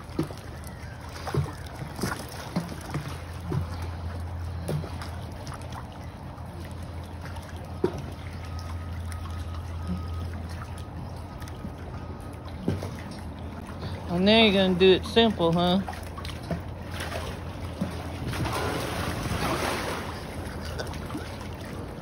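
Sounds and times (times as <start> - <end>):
pool water sloshing and splashing: 0.0 - 22.0
steady low hum: 0.0 - 22.0.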